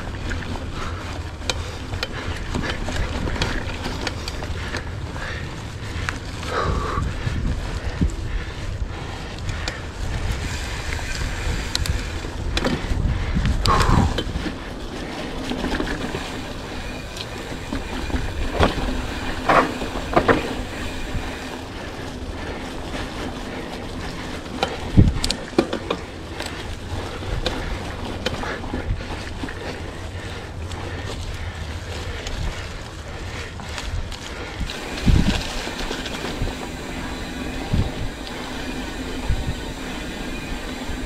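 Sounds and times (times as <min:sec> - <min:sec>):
bike clicks and knocks on dirt trail: 0:00.0 - 0:41.0
wind rumbling on microphone: 0:00.0 - 0:41.0.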